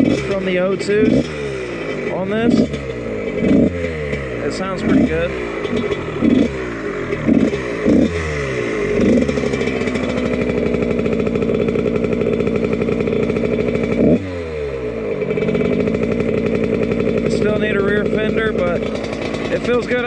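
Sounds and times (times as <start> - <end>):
two-stroke motorcycle engine revving: 0.0 - 20.0.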